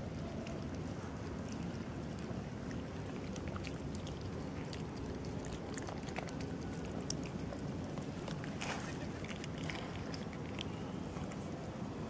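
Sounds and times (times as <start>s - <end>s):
cats chewing and lapping: 0.0s - 12.0s.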